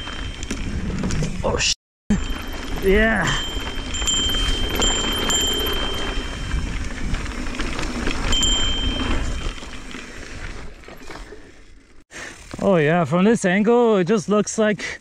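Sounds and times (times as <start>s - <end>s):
wind rumble: 0.0s - 12.0s
bike tyres on dirt: 0.0s - 15.0s.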